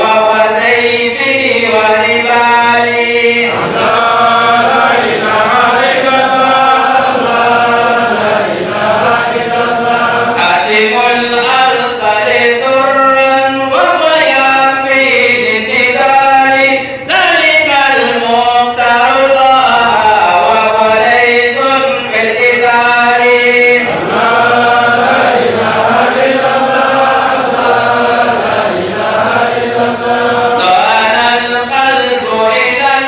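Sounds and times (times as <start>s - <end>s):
man chanting devotional song: 0.0s - 33.0s.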